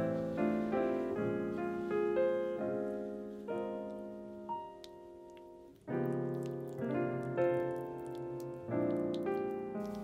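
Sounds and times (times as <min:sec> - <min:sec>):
slow solo piano: 0:00.0 - 0:10.0.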